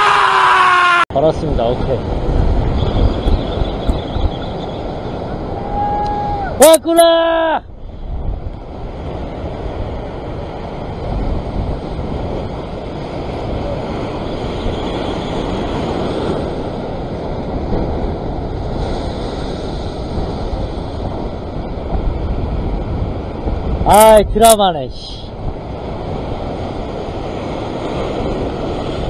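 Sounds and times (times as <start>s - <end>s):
ocean surf over rocks: 0.0s - 29.0s
wind buffeting microphone: 1.1s - 29.0s.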